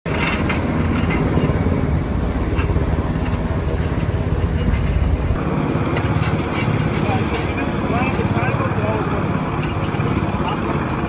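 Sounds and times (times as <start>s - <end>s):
helicopter engine and rotor: 0.2s - 11.0s.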